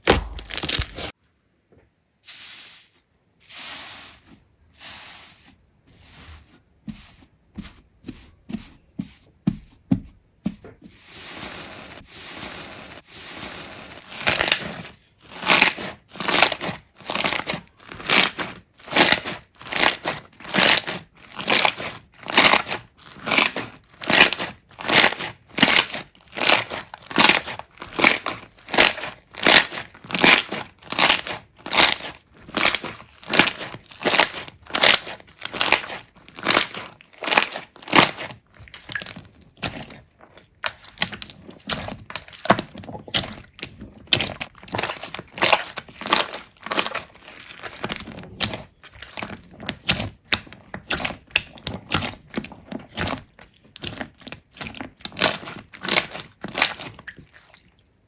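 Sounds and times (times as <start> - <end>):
slime squishing by hand: 0.0 - 1.2, 3.5 - 58.0.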